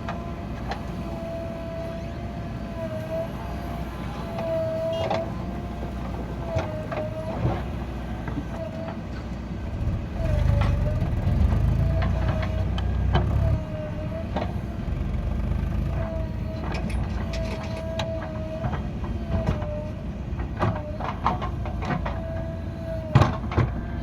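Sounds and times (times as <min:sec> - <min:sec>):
heavy diesel vehicle running: 0:00.0 - 0:24.0.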